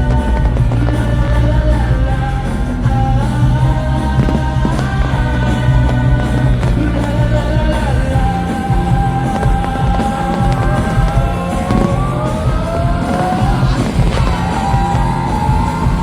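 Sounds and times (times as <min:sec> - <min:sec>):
soundtrack music with heavy bass: 0:00.0 - 0:16.0.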